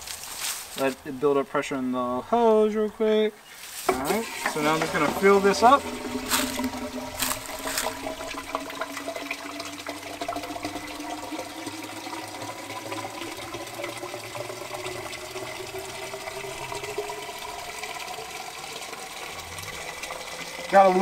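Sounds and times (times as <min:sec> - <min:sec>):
hose water pouring into pipe: 0:03.7 - 0:21.0.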